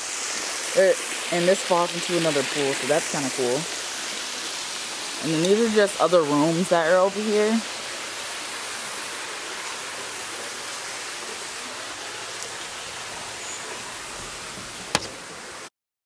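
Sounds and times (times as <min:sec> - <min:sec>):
water spilling into pool: 0:00.0 - 0:15.7.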